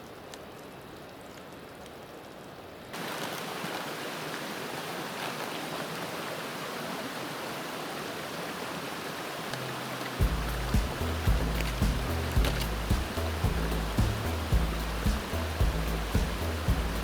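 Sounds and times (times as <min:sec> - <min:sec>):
flowing water rushing: 0:00.0 - 0:17.0
quiet steady hiss: 0:00.0 - 0:17.0.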